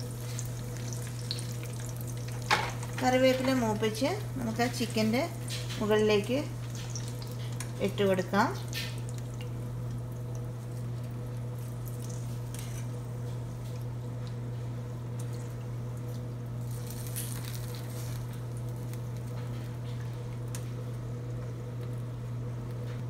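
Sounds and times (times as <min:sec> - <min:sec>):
hot oil sizzling and crackling: 0:00.0 - 0:22.8
steady low hum: 0:00.0 - 0:23.0.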